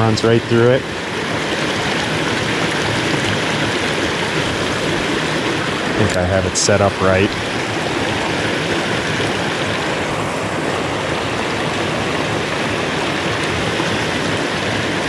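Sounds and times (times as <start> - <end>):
water rushing over dam: 0.0 - 15.0.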